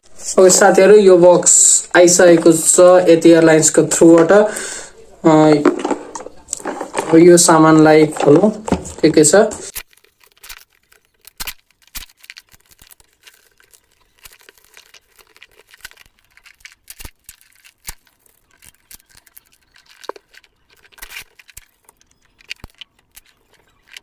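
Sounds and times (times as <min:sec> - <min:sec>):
plastic wrapping crinkling and tearing: 0:01.4 - 0:24.0.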